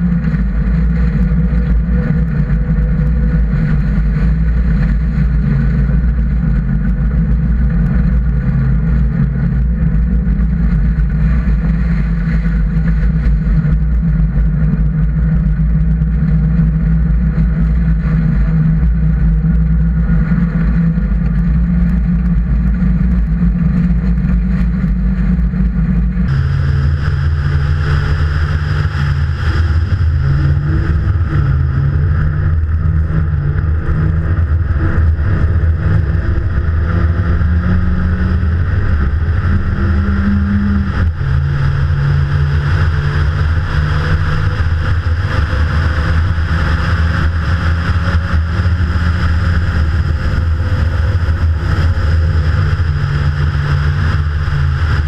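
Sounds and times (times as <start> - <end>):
rally car engine running hard: 0.0 - 55.0.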